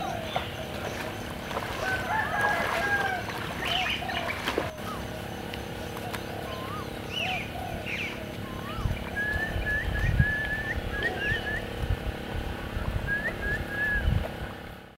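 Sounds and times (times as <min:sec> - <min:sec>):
birds chirping and whistling: 0:00.0 - 0:14.7
low rumbles: 0:00.0 - 0:14.9.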